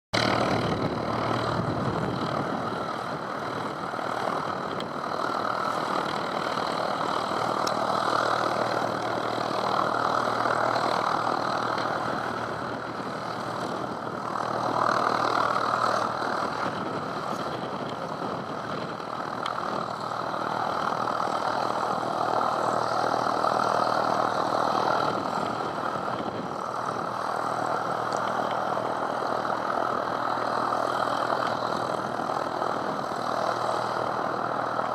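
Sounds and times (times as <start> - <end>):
aircraft engine running: 0.1 - 34.9.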